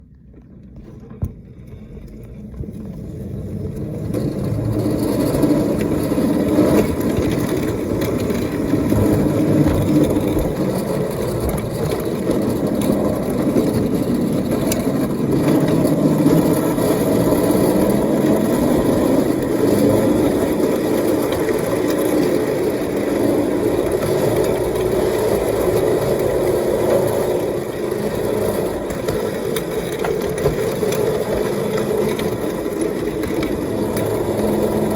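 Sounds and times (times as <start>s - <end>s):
steam locomotive running: 2.5s - 34.9s.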